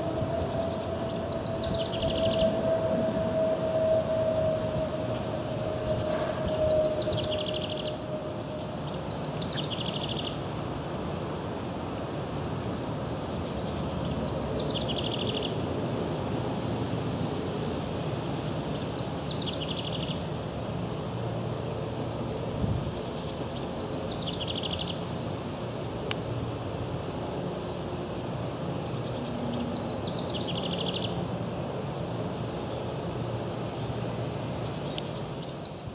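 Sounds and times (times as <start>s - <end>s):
wren singing: 0.0s - 10.5s, 13.3s - 15.8s, 18.5s - 27.1s, 28.5s - 35.9s.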